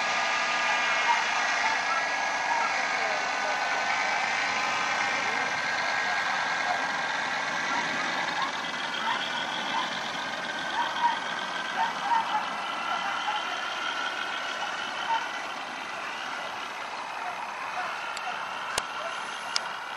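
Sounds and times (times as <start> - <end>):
distant paramotor engine buzzing: 0.0 - 19.9.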